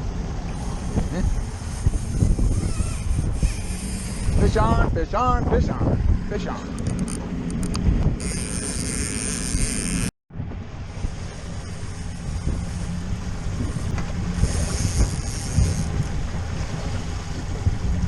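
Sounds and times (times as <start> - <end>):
boat motor running: 0.0 - 18.0
wind buffeting microphone: 0.0 - 18.0.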